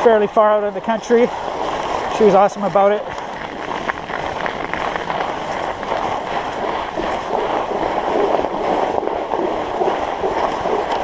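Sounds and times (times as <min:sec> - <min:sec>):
bike tires crunching snow: 0:00.0 - 0:11.0
wind on microphone: 0:01.2 - 0:11.0.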